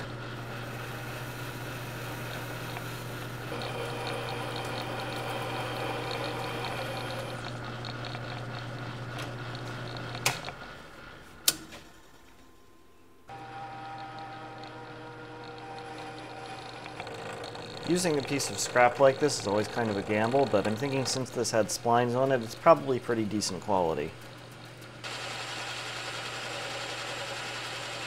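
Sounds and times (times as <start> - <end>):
metal lathe motor hum: 0.0 - 11.4, 13.3 - 28.0.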